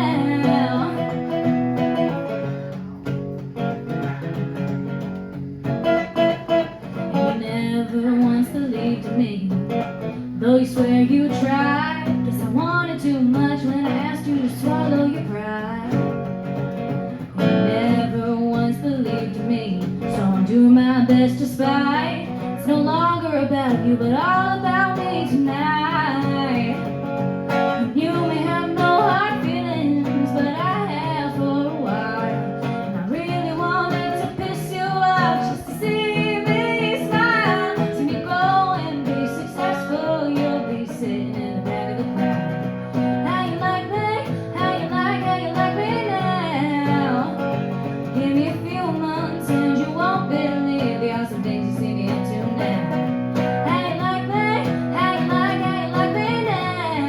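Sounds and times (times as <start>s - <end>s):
woman singing: 0.0s - 2.4s, 5.9s - 57.0s
acoustic guitar strumming: 0.0s - 57.0s.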